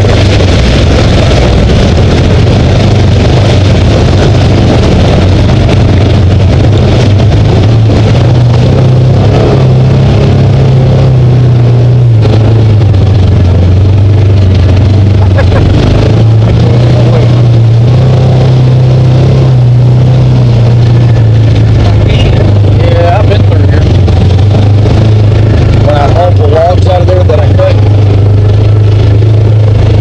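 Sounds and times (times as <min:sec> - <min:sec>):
utility vehicle engine running: 0:00.0 - 0:30.0.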